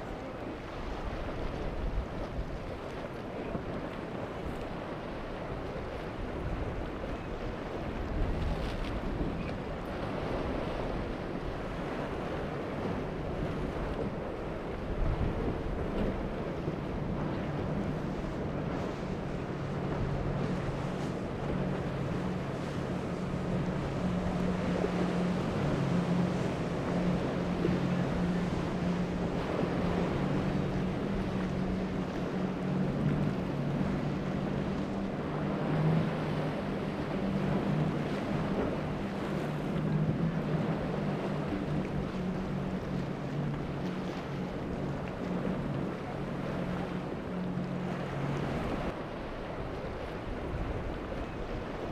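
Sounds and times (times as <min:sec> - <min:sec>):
boat hull splashing through waves: 0:00.0 - 0:51.9
surf washing: 0:00.0 - 0:51.9
wind buffeting microphone: 0:00.0 - 0:51.9.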